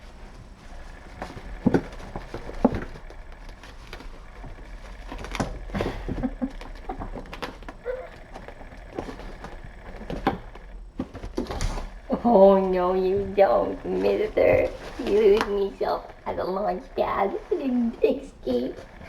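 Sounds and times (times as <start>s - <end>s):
kittens scampering: 0.0s - 19.0s
rustling: 0.0s - 19.0s.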